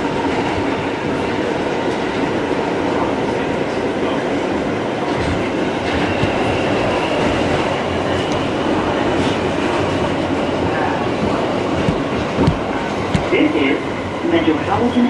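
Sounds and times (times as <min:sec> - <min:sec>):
rail clicks: 0:00.0 - 0:15.0
subway train rumble: 0:00.0 - 0:15.0.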